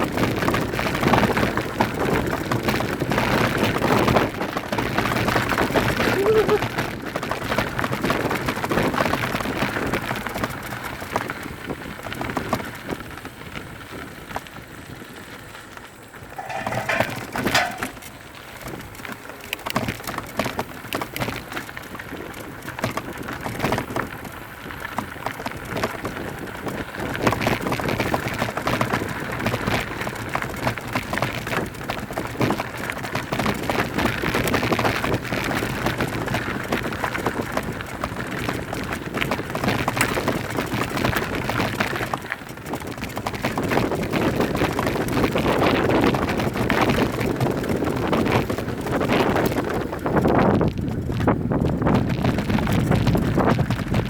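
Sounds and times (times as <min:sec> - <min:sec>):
bike rattling: 0:00.0 - 0:54.0.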